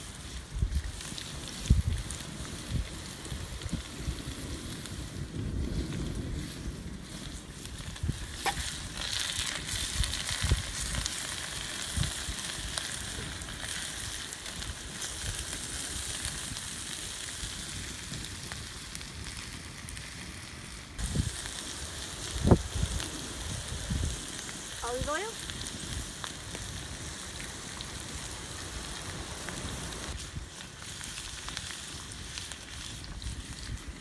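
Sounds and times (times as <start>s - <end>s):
vegetables sizzling in a pan: 0.0s - 18.6s, 20.0s - 34.0s.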